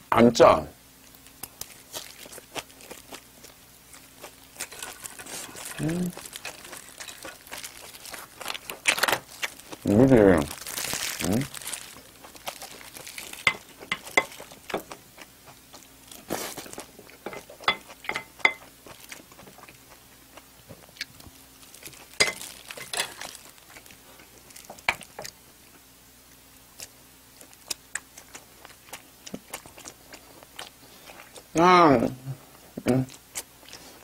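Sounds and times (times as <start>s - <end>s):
person chewing with mouth smacks: 1.1s - 25.8s, 26.7s - 31.5s, 32.5s - 34.0s.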